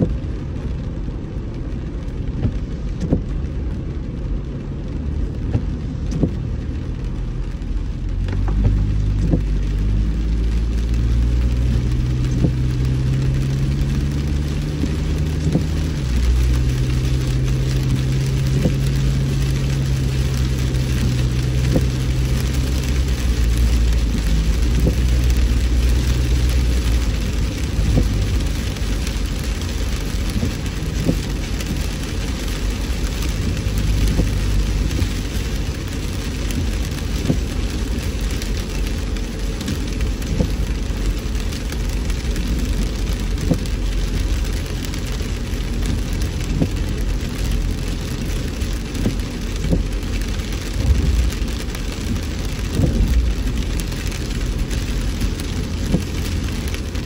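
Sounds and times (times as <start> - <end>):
engine and road hum: 0.0 - 57.0
rain drops on car: 0.0 - 57.0.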